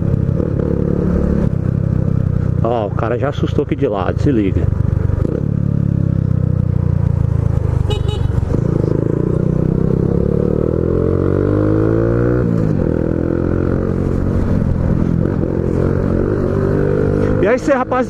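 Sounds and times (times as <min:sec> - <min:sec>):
motorcycle engine accelerating: 0:00.0 - 0:03.1, 0:04.0 - 0:18.0.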